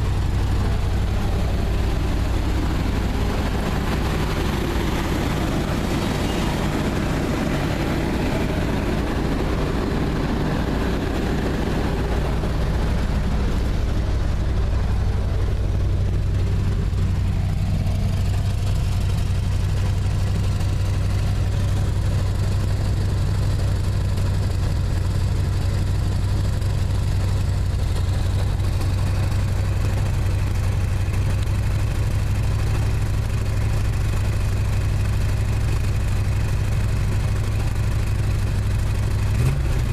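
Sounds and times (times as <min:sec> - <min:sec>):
engine exhaust drone with misfire: 0:00.0 - 0:39.9
rough mid-range engine noise: 0:00.0 - 0:39.9.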